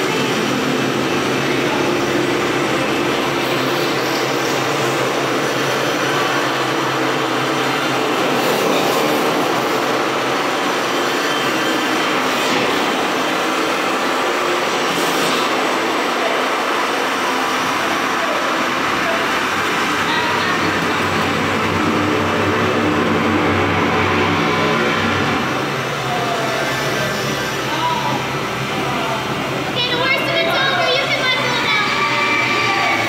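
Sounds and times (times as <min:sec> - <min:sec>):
loud rushing drone: 0:00.0 - 0:33.0.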